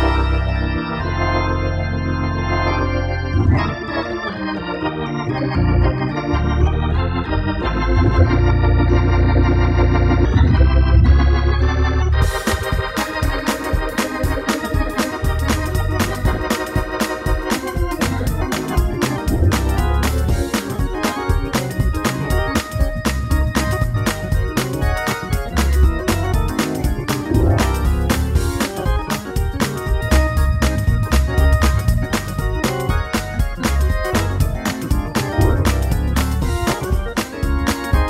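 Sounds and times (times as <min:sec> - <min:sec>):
organ playing gospel music: 0:00.0 - 0:38.0.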